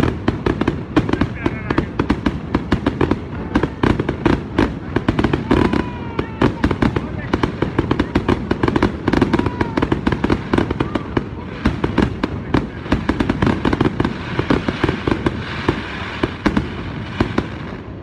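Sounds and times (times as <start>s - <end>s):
fireworks cracking and banging: 0.0s - 18.0s.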